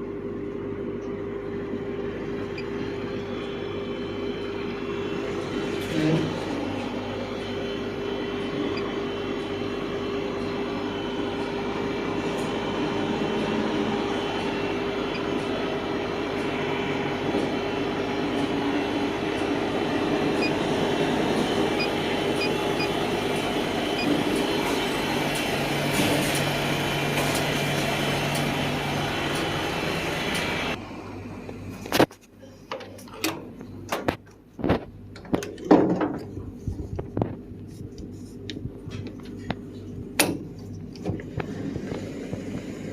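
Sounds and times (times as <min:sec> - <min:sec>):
diesel pump humming: 0:00.0 - 0:33.9, 0:34.9 - 0:42.9.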